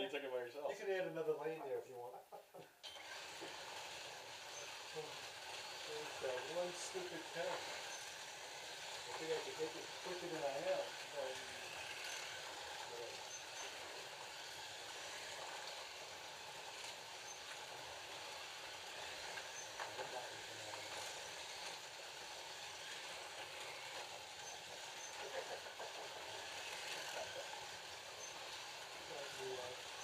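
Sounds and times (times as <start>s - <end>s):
slot car motors whirring: 2.8s - 30.0s.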